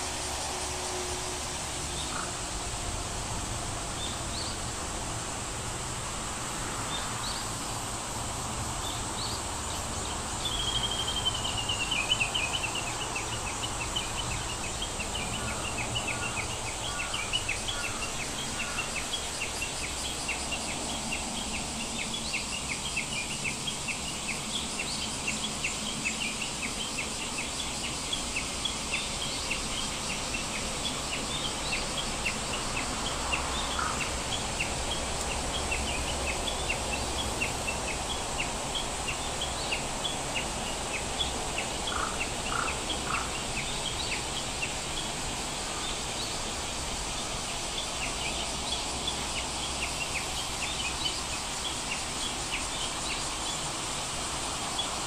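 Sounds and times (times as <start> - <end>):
steady high hiss: 0.0 - 55.0
small birds chirping: 8.8 - 55.0.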